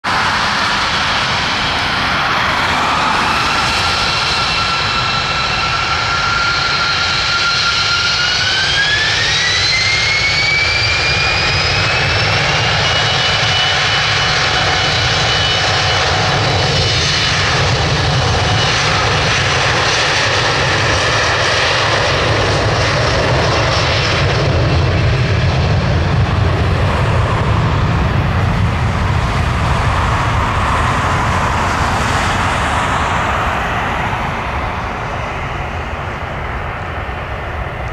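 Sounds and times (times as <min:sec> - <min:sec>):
jet engine whine and roar: 0:00.0 - 0:37.9.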